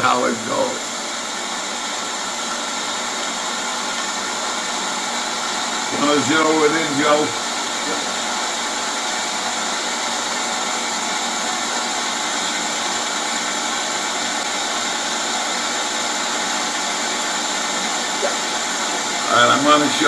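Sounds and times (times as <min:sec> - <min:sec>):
milling machine whirring: 0:00.0 - 0:20.0.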